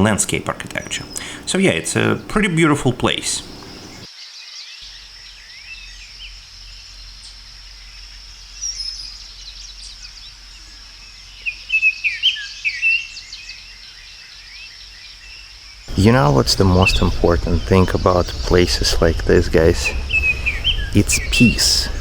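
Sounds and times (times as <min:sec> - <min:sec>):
birds chirping and singing: 0:00.0 - 0:22.0
high insect drone: 0:00.4 - 0:04.1, 0:04.9 - 0:22.0.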